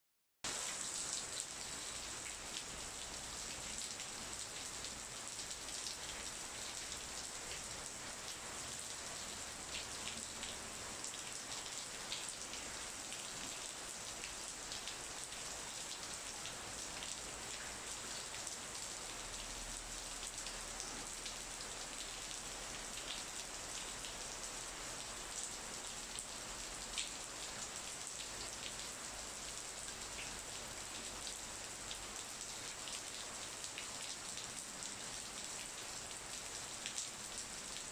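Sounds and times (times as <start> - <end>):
rain pattering on leaves: 0.5 - 37.9.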